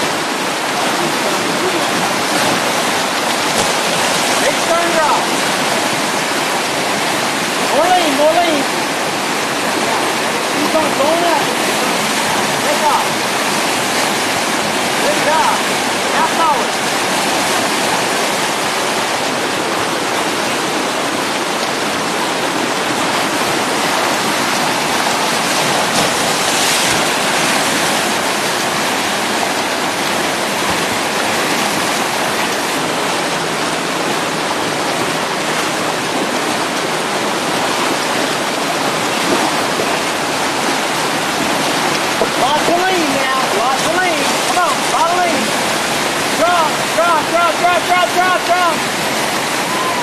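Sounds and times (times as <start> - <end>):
whitewater rapids rushing: 0.0 - 50.0.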